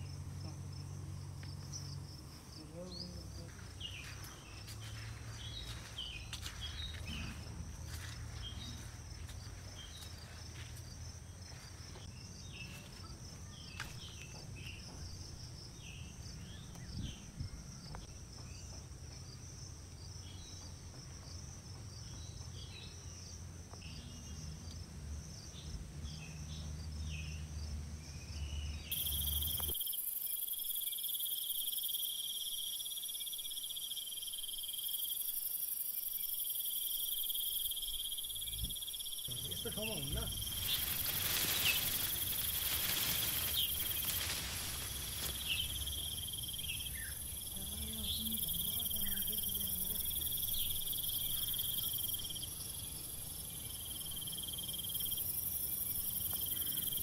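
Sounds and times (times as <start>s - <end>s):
high insect drone: 0.0s - 24.6s, 25.2s - 57.0s
insects chirping and trilling: 0.0s - 57.0s.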